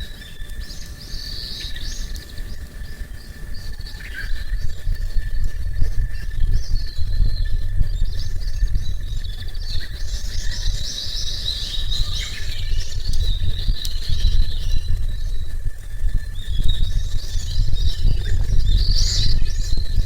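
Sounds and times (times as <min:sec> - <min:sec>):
thin insect-like tone: 0:00.0 - 0:20.0
wind rumble on microphone: 0:00.0 - 0:20.0.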